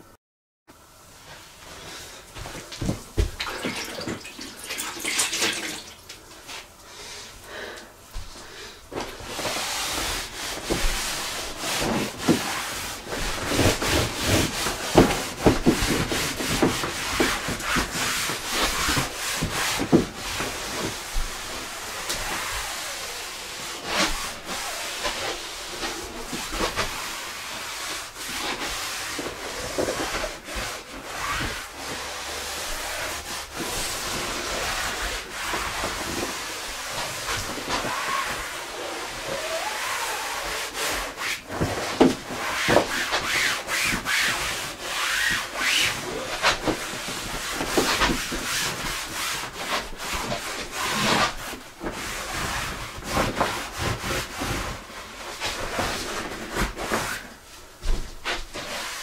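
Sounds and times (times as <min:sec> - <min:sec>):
cloth wiping vinyl: 0:08.1 - 0:59.0
cloth squeaking on vinyl: 0:09.1 - 0:59.0.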